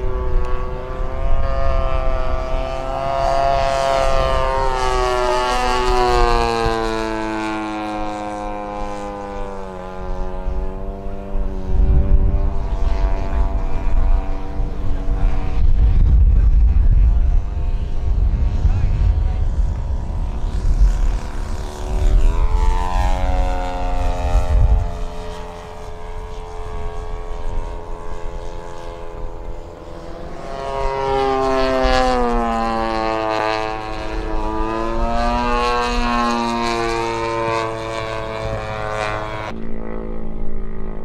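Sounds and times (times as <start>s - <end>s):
model airplane engine droning: 0.0s - 41.0s.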